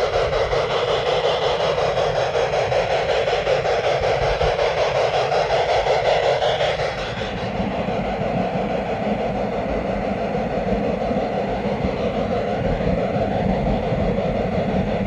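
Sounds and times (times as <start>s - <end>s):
model train wheels on rail: 0.0s - 15.0s.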